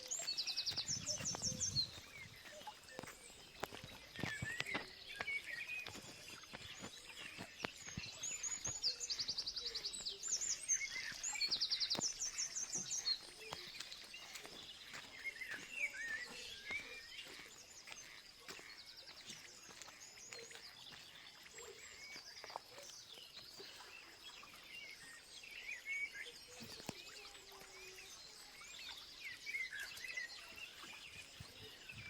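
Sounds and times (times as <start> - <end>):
birds singing: 0.0 - 32.0.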